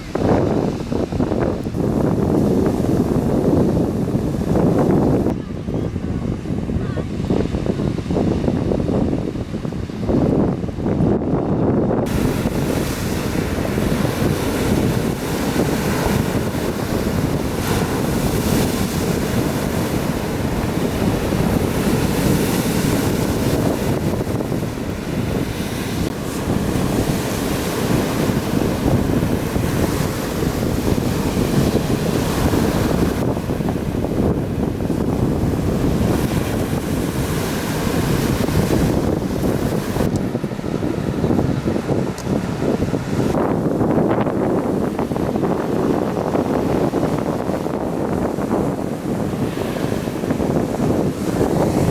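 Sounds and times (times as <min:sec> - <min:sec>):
sea surf washing onto beach: 0:00.0 - 0:11.0, 0:11.9 - 0:51.9
wind buffeting microphone: 0:00.0 - 0:51.9.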